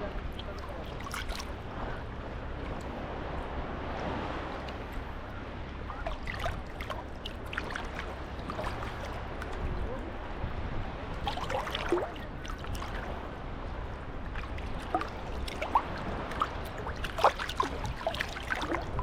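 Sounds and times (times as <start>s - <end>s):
small waves lapping at shore: 0.0s - 19.0s.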